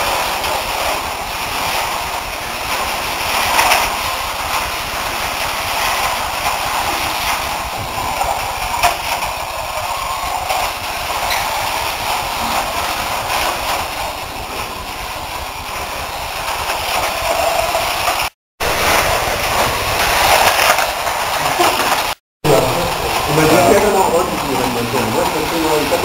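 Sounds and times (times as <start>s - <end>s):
slot car motors whirring: 0.0s - 26.0s
slot cars rattling on track: 0.0s - 26.0s.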